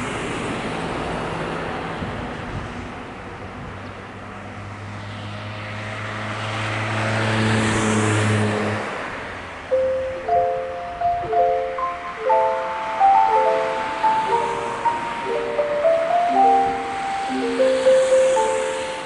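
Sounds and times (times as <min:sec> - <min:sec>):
vehicle passing: 0:00.1 - 0:19.0.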